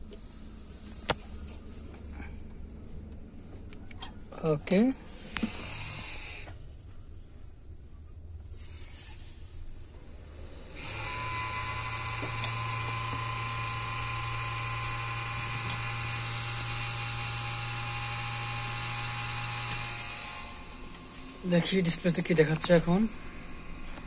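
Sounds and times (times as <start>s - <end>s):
computer fans and hard drive whine: 0.0s - 8.5s, 9.8s - 24.0s.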